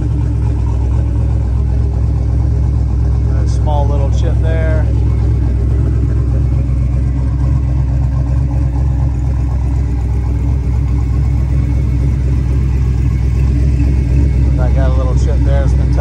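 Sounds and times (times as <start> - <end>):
engine idling with low rumble: 0.0 - 16.0.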